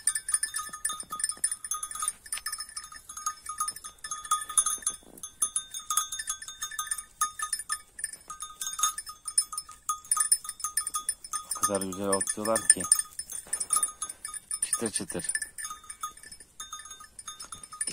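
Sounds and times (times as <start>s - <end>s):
collar bell jingling: 0.0s - 17.9s
sheep chewing dry grass: 0.0s - 17.9s.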